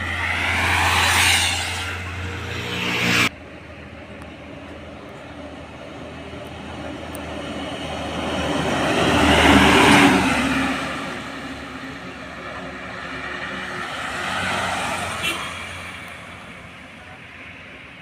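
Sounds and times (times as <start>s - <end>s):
truck driving past: 0.0s - 16.6s.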